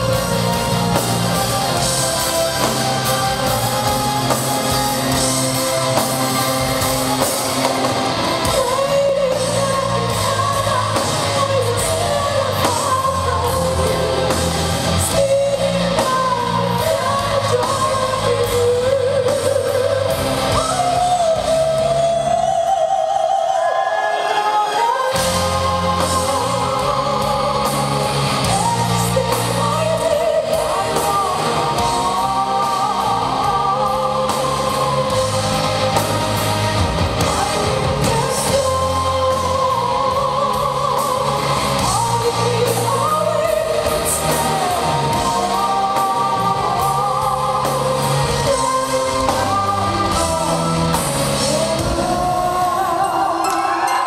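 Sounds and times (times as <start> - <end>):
live metal band playing: 0.0 - 23.5, 24.2 - 54.0
woman singing: 0.0 - 54.0.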